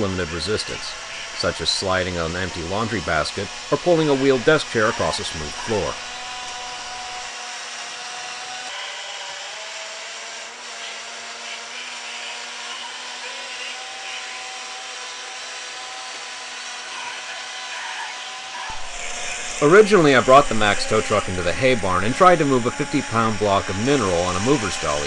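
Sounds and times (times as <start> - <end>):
toy truck motor whirring: 0.0 - 25.0.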